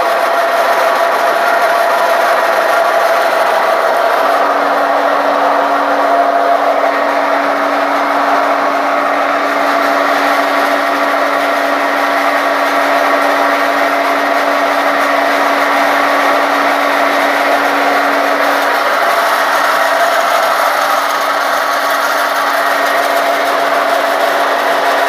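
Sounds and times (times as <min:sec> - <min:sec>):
pellet press running: 0:00.0 - 0:25.0.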